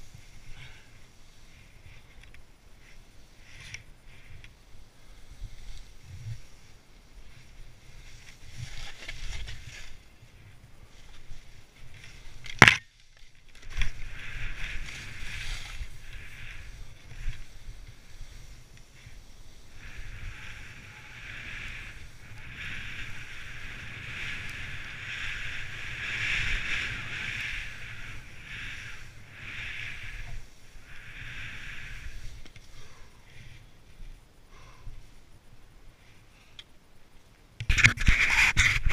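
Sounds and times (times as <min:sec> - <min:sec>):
skis hissing through powder snow: 0:00.0 - 0:02.1, 0:02.7 - 0:12.4, 0:13.0 - 0:34.2
wind rumble on microphone: 0:00.0 - 0:12.7, 0:13.4 - 0:35.9, 0:37.6 - 0:38.9.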